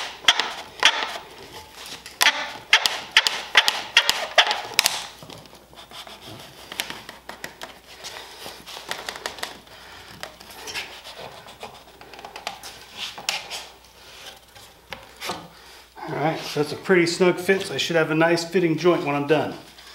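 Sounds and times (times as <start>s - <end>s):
wood scraping on wood: 0.0s - 16.9s.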